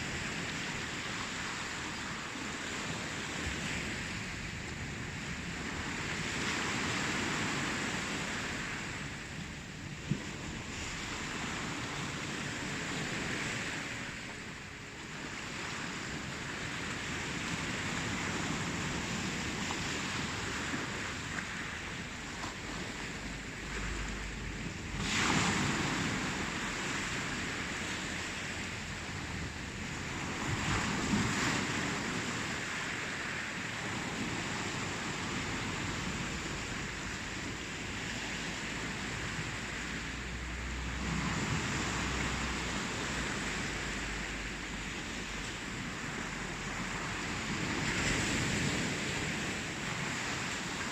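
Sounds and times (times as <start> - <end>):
ocean waves washing in: 0.0 - 50.9.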